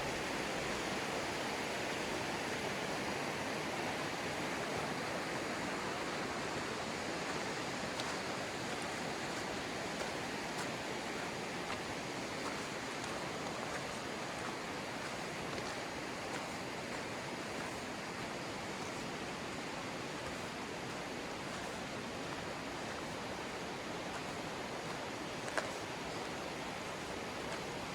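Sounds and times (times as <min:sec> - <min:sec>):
river rushing over rocks: 0:00.0 - 0:27.9.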